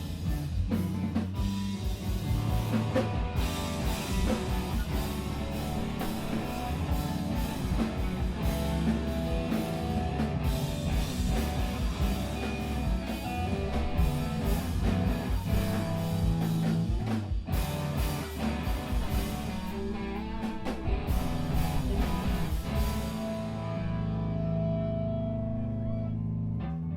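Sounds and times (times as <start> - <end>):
drum kit: 0.0 - 24.3
bass guitar: 0.0 - 26.9
electric guitars: 0.0 - 26.9.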